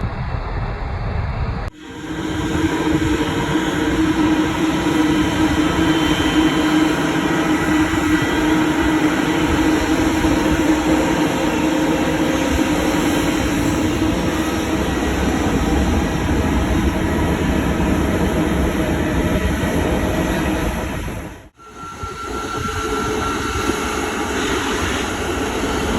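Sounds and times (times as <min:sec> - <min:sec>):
jet engines rumbling: 0:00.0 - 0:25.9.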